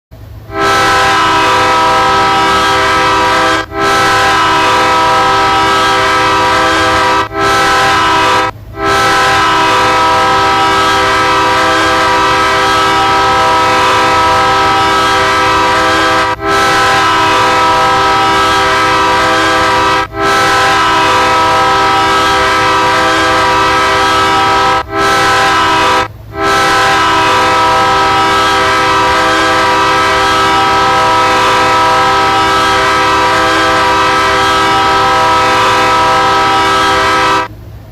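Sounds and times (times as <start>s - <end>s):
locomotive air horn blasts: 0.4s - 37.6s.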